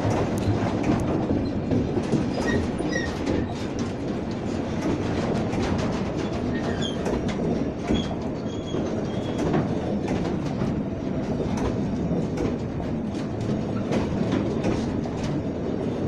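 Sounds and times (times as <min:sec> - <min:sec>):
clicks over rail joints: 0:00.0 - 0:16.0
train wheels rumbling on rail: 0:00.0 - 0:16.0.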